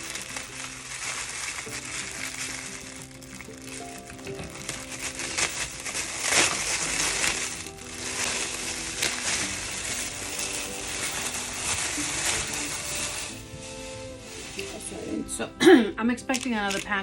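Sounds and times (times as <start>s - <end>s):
packaging crinkling: 0.0s - 15.0s, 16.3s - 17.0s
quiet background music: 0.0s - 17.0s.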